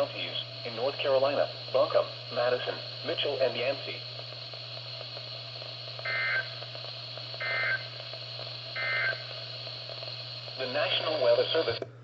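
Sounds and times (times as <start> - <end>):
digital data noise bursts: 0.0 - 11.8
radio static hiss: 0.0 - 11.9.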